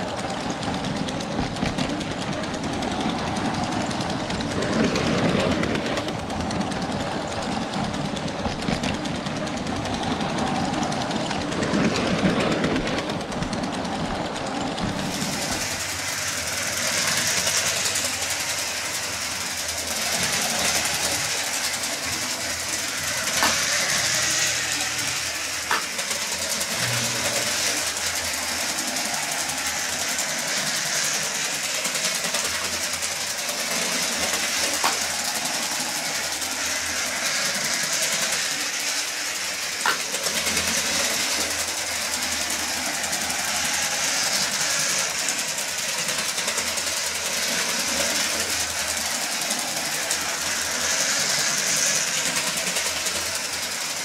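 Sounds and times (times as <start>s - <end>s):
toy train motor whirring: 0.0s - 54.0s.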